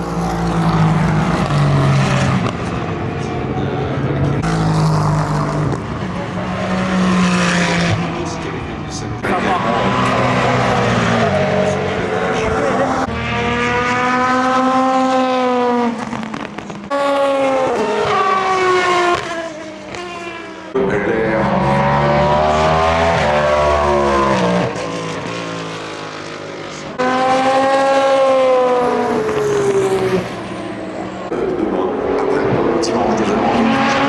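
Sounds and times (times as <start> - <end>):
race car engines passing by: 0.0 - 34.0.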